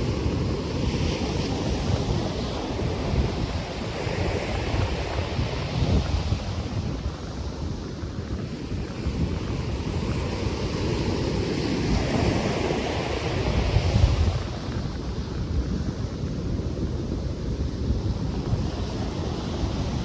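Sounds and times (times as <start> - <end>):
ocean waves breaking: 0.0 - 20.0
wind gusting on microphone: 0.0 - 20.0.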